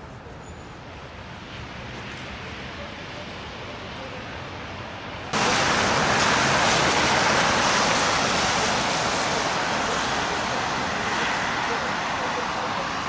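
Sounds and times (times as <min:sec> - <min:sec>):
traffic hiss on slushy roads: 0:00.0 - 0:13.0.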